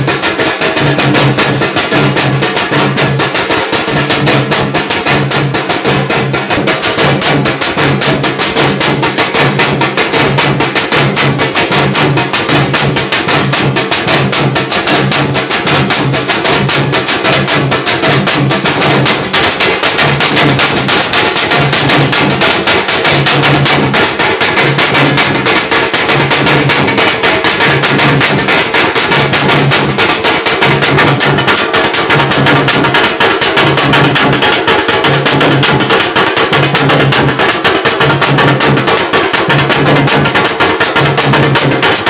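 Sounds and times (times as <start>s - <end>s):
cymbals ringing: 0.0s - 42.0s
drums beaten fast: 0.0s - 42.0s.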